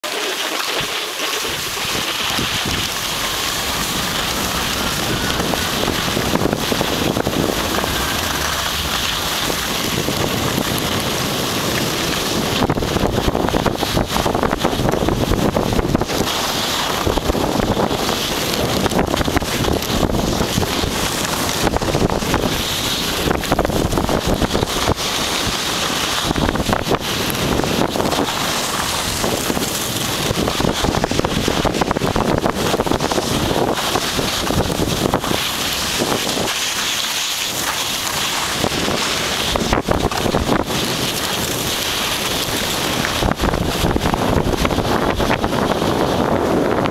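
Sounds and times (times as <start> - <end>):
wind buffeting microphone: 0.8 - 46.9.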